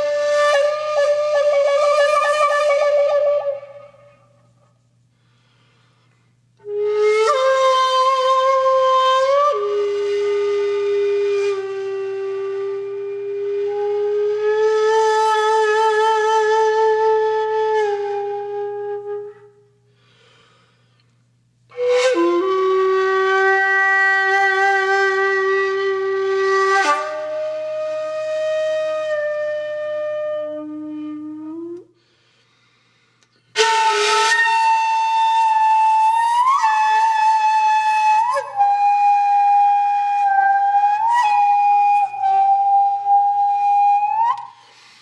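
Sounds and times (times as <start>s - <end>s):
solo flute playing slow notes: 0.0s - 5.6s, 6.5s - 20.3s, 21.7s - 32.1s, 33.5s - 45.0s.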